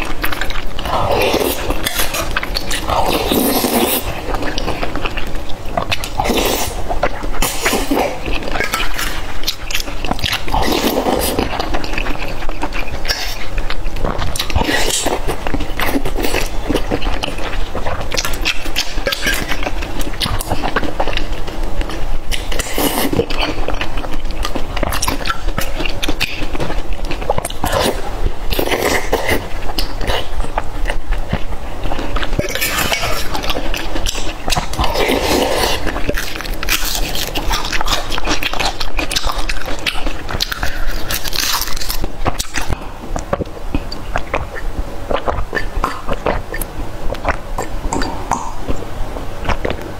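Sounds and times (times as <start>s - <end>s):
chewing and biting food: 0.0s - 49.9s.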